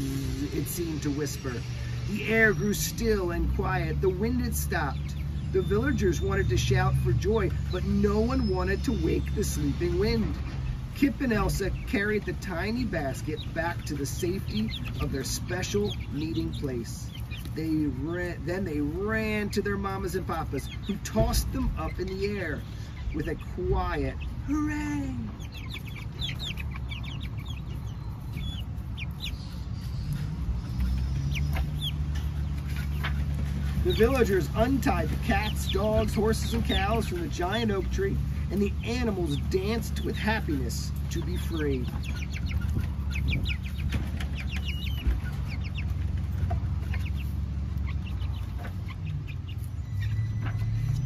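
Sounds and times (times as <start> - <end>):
chicks cheeping: 0.0 - 51.0.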